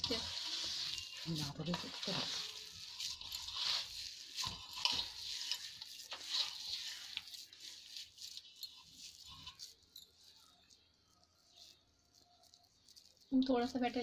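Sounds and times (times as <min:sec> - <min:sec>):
hand mixing in metal bowl: 0:00.0 - 0:14.0.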